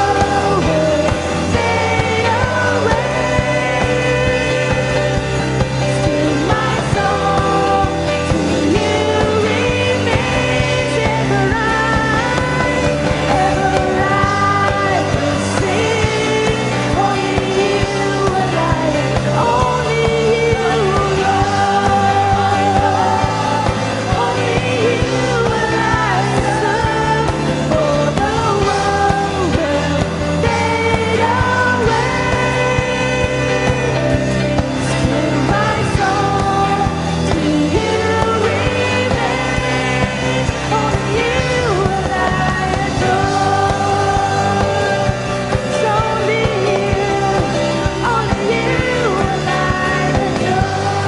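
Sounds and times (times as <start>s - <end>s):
worship music with singer: 0.0s - 51.0s.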